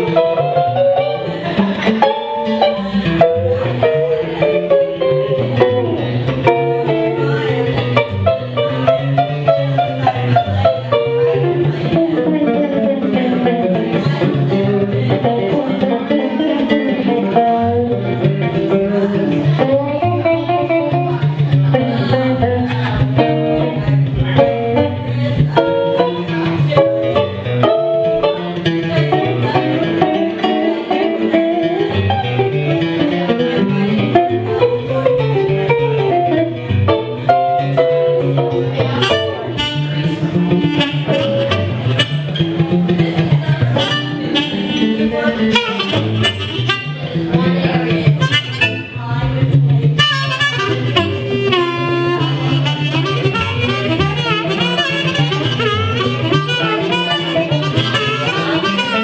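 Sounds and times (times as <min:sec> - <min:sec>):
blues guitar lead lines: 0:00.0 - 0:59.0
guitar bass-string pattern: 0:00.0 - 0:59.0.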